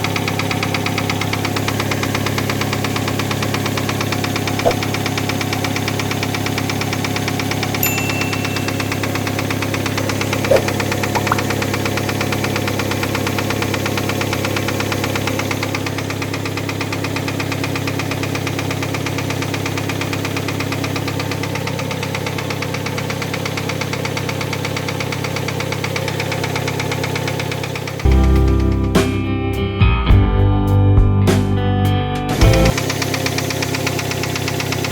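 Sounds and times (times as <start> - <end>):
fast engine knock: 0.0 - 7.8, 8.4 - 28.8, 32.7 - 34.9
engine idling: 0.0 - 29.1, 32.5 - 34.9.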